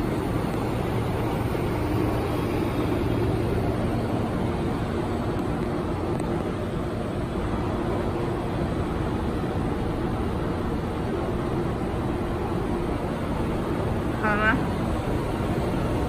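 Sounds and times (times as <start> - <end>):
welding machine hum and hiss: 0.0 - 16.0.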